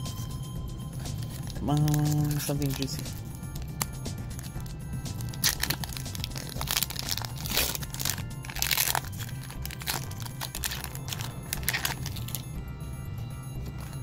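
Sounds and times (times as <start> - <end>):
background music: 0.0 - 14.0
foil wrapper crinkling and tearing: 1.0 - 12.6.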